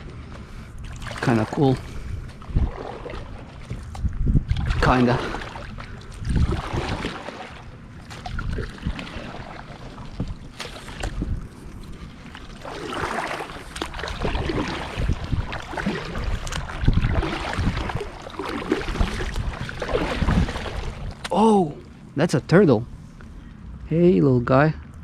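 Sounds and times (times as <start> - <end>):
wind buffeting microphone: 0.0 - 21.9
water lapping against kayak hull: 0.0 - 23.6.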